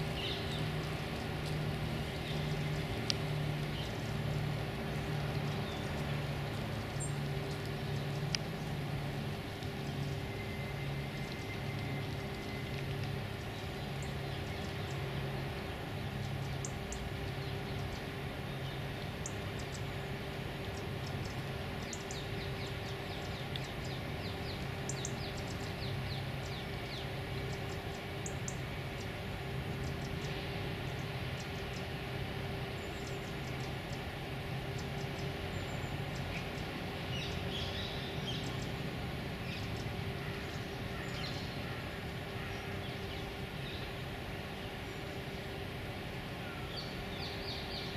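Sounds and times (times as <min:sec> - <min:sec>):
distant city traffic hum: 0:00.0 - 0:47.9
small birds chirping: 0:00.0 - 0:47.9.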